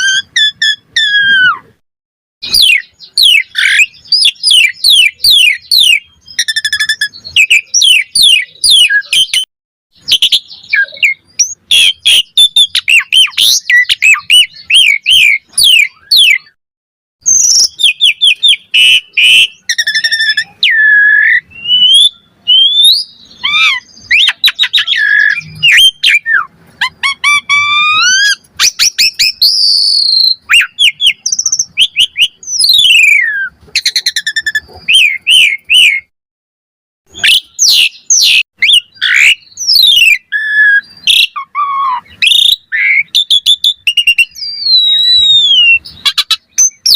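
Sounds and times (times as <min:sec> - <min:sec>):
starling singing: 0:00.0 - 0:01.8, 0:02.4 - 0:16.6, 0:17.2 - 0:36.1, 0:37.1 - 0:46.9.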